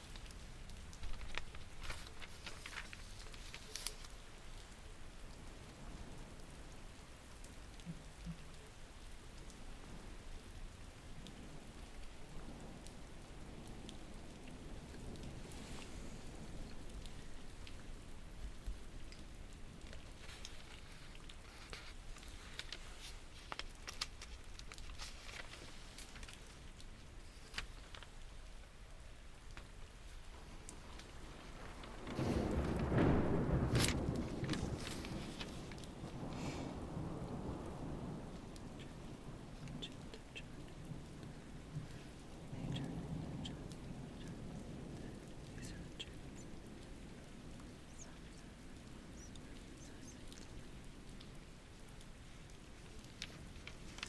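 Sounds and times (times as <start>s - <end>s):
light ticks and patters: 0.0s - 54.0s
steady rain falling: 0.0s - 54.0s.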